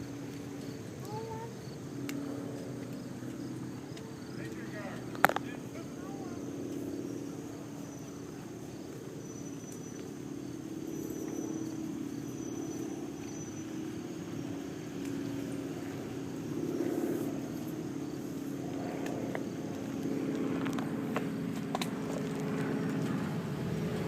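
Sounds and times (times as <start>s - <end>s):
motorcycle engines droning: 0.0s - 24.0s.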